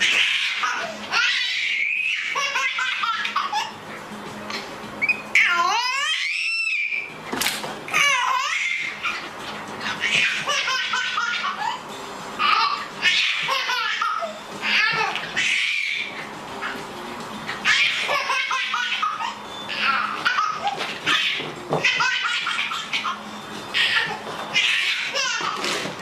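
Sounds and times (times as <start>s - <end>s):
baby laughing and squealing: 0.0s - 3.8s, 5.0s - 7.1s, 7.9s - 16.8s, 17.6s - 25.9s.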